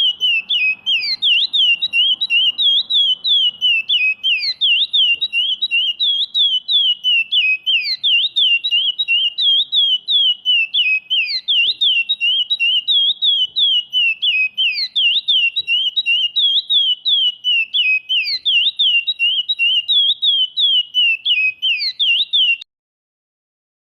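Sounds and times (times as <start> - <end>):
bird singing high whistled notes: 0.0 - 22.7.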